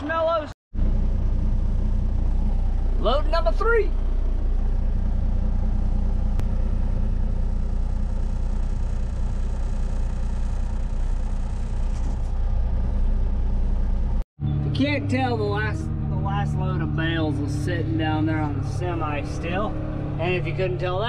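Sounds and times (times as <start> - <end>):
vehicle engine droning: 0.7 - 21.0.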